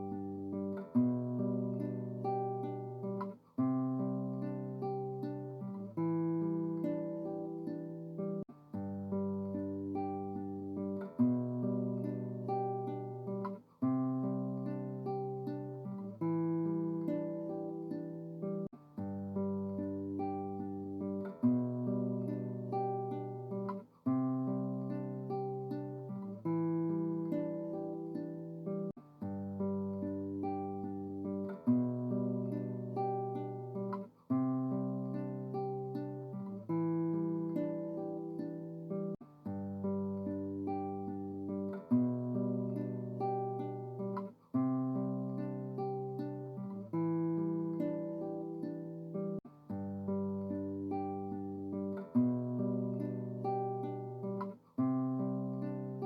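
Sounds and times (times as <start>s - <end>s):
guitar plucked chords: 0.0s - 56.0s.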